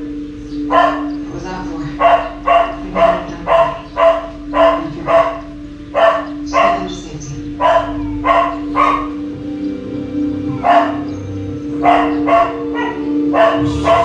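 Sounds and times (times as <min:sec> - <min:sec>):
dog barking: 0:00.6 - 0:01.2, 0:01.9 - 0:09.3, 0:10.5 - 0:14.0.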